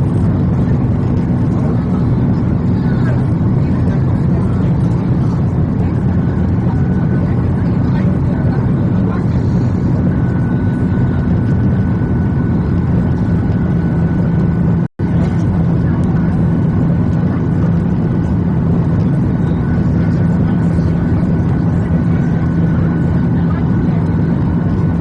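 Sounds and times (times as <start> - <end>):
jet engine drone and airflow: 0.0 - 25.0.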